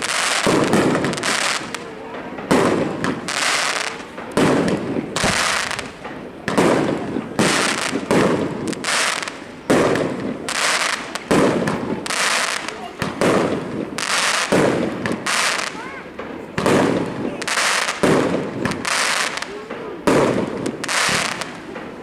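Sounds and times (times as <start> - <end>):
crackling firework tail: 0.0 - 22.0
fireworks bursting with loud bangs: 0.0 - 22.0.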